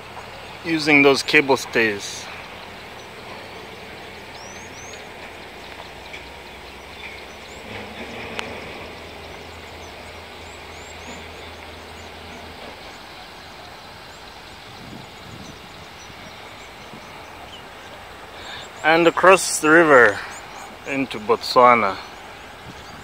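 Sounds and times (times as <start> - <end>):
low engine hum: 0.0 - 23.0
small birds chirping: 0.0 - 23.0.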